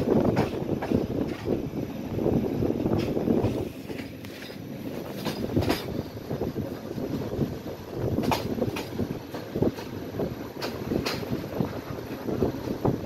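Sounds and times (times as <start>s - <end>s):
train rumble under floor: 0.0s - 13.0s
wheels clicking over rails: 0.0s - 13.0s.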